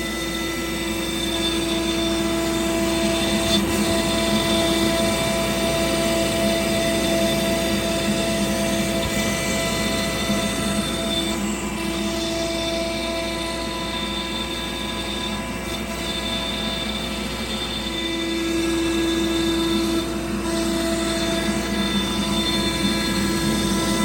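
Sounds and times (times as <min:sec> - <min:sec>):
cnc machine motor whine: 0:00.0 - 0:24.0.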